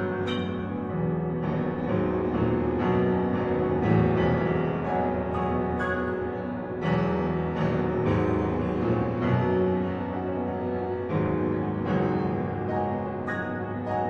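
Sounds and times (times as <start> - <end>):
upright piano playing: 0.0 - 14.0.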